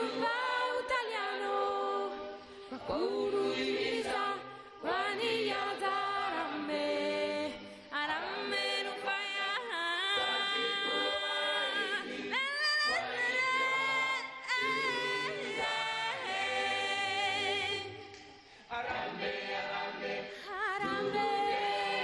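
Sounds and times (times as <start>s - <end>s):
choir singing unaccompanied: 0.0s - 22.0s.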